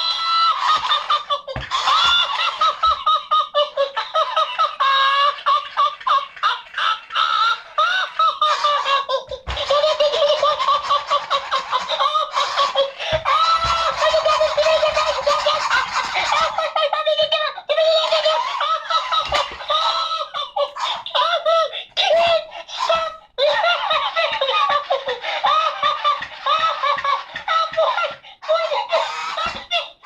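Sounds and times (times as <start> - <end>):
toy voice giggling and chattering: 0.0 - 30.0.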